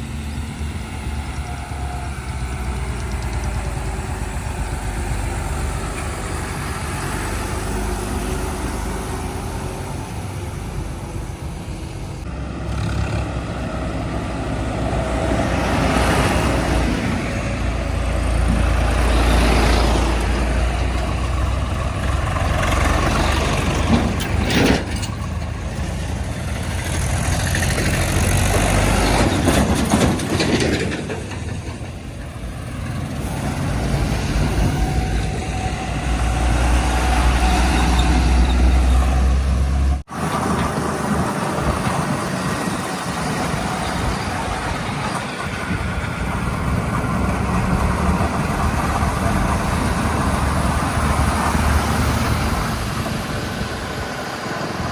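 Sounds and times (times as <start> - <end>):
heavy diesel engines rumbling: 0.0 - 54.9.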